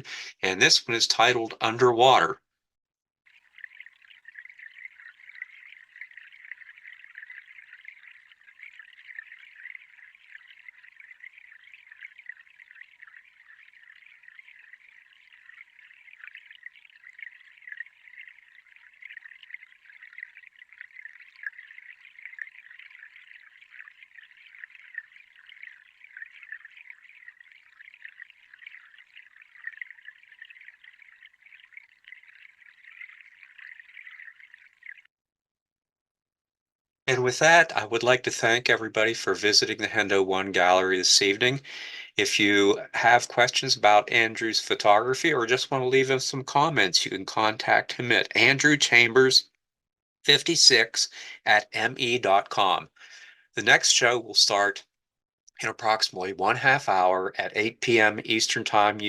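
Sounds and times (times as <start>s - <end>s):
water trickling: 3.3s - 35.1s, 37.1s - 41.6s, 42.2s - 49.3s, 51.5s - 54.7s, 55.5s - 59.0s.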